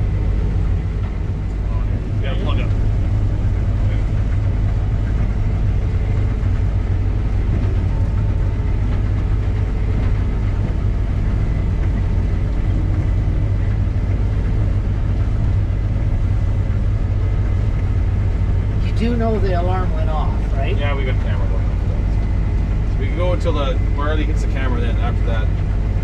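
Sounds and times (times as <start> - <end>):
combine harvester drone: 0.0 - 26.0.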